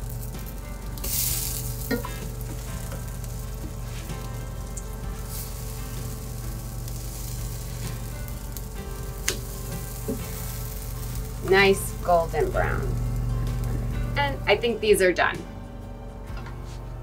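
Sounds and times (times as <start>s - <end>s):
pancakes sizzling in frying pan: 0.0s - 13.9s.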